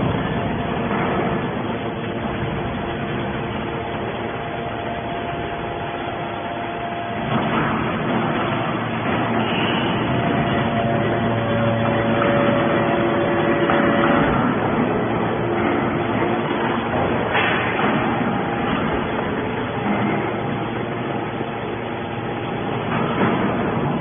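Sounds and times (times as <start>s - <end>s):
hydraulic baler motor and pump: 0.0s - 24.0s.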